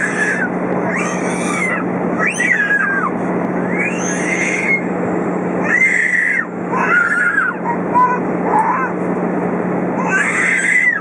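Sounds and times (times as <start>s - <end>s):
small child crying: 0.0s - 4.9s, 5.6s - 9.0s, 10.0s - 11.0s
airliner cabin engine noise: 0.0s - 11.0s.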